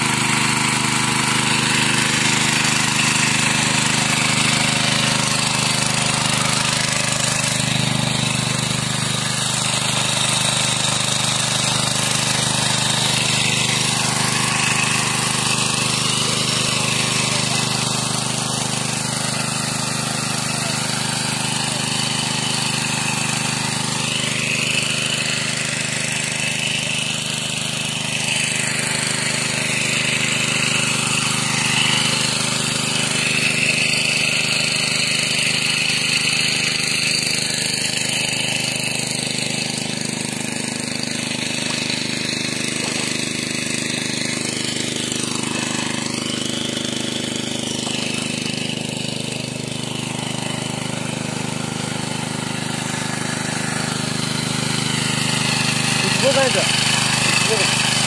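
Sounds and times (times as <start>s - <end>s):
small pump engine running: 0.0s - 58.0s
water gushing and splashing: 0.0s - 58.0s.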